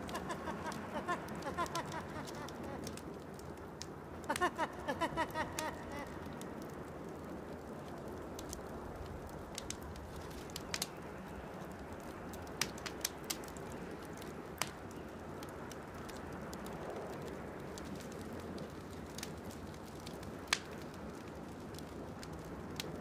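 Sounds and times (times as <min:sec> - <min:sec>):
campfire crackling and popping: 0:00.0 - 0:23.0
low fire hiss: 0:00.0 - 0:23.0.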